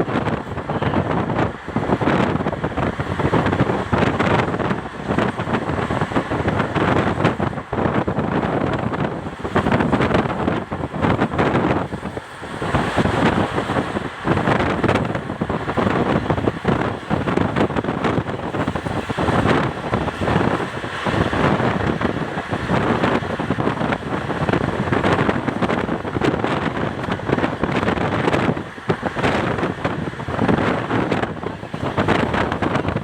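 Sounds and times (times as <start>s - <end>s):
train wheels rumbling on track: 0.0s - 33.0s
wind buffeting microphone: 0.0s - 33.0s.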